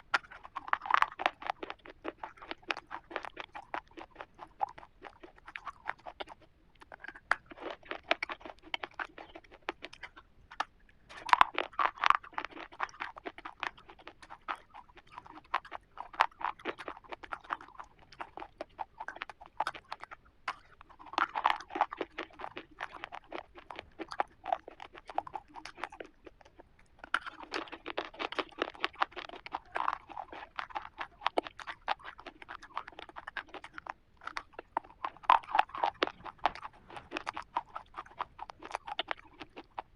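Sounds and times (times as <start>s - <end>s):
person chewing crunchy wafer: 0.0s - 39.9s.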